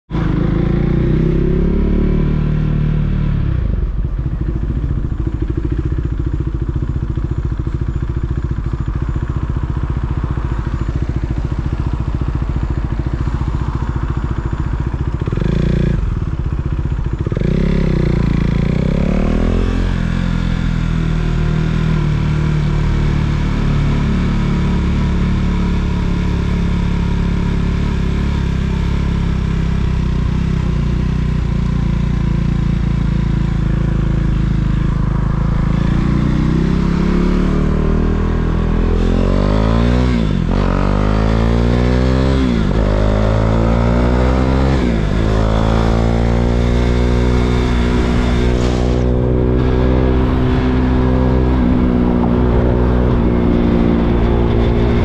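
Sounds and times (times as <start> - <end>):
motorcycle engine running: 0.1 - 55.0.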